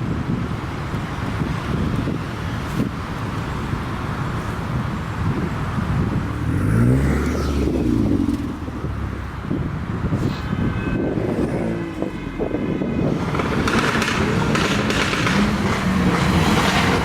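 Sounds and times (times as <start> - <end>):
low rumble of passing traffic: 0.0 - 17.0.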